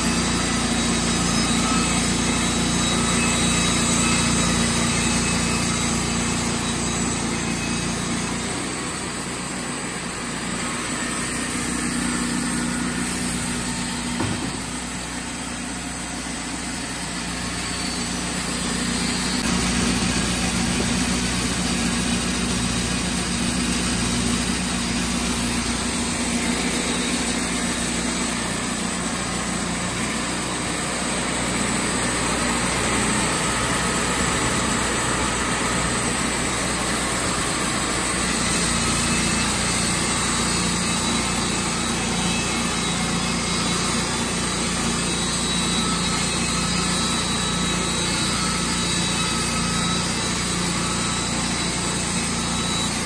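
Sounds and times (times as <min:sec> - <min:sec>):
band sawmill cutting log: 0:00.0 - 0:53.0.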